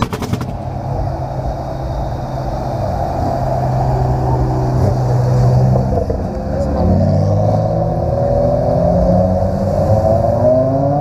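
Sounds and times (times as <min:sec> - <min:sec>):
car engine and exhaust running: 0:00.0 - 0:10.1.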